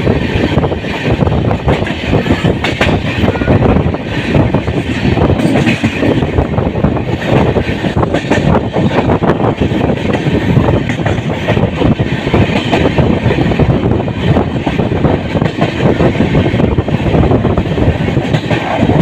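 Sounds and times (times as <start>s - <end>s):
train clattering and rattling: 0.0s - 19.0s
train wheels on track: 0.0s - 19.0s.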